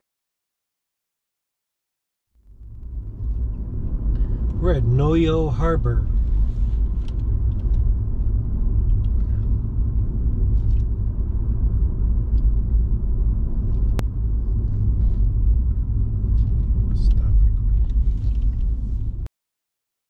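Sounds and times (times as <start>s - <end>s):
car driving rumble: 2.4s - 19.3s.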